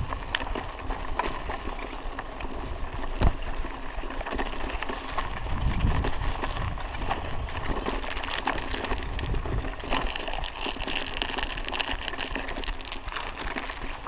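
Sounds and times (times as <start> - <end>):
bike parts clicking and rattling: 0.0 - 14.0
tyres crunching on gravel: 0.0 - 14.0.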